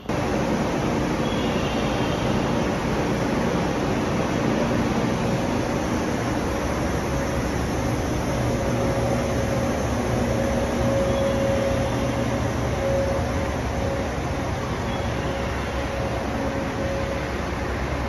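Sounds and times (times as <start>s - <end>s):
electric train equipment humming: 0.0s - 18.0s
mid-pitched whine: 0.0s - 18.0s.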